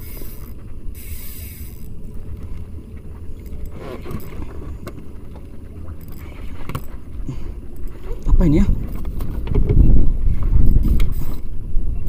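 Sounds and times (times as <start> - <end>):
water moving around boat: 0.0 - 11.5
wind rumbling on microphone: 0.0 - 12.0.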